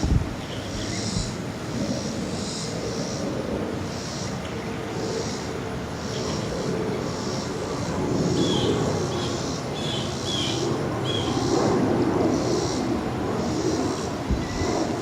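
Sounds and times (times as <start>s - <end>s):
airliner flying overhead: 0.0s - 15.0s.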